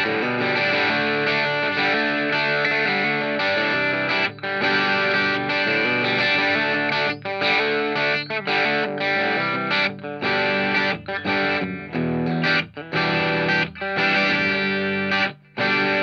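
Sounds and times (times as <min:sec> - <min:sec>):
electric guitar chords strummed: 0:00.0 - 0:16.0.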